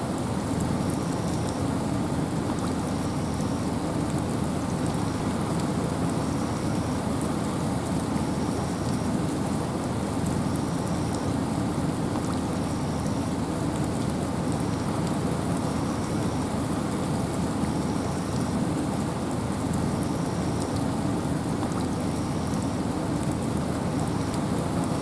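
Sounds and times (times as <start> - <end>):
rain with wind: 0.0 - 25.0.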